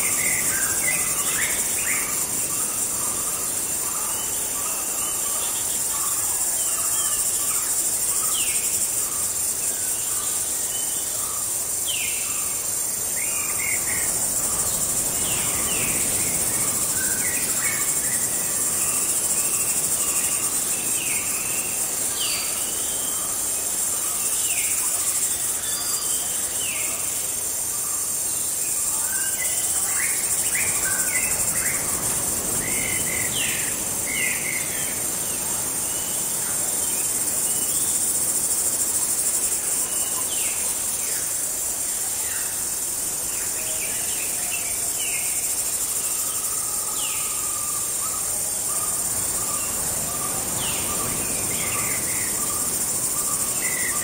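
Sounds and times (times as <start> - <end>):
crickets chirping drone: 0.0 - 54.0.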